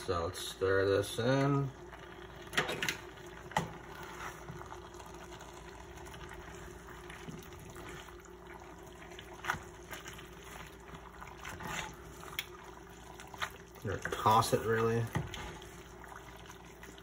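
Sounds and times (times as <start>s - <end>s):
wet pasta sloshing: 3.0s - 17.0s.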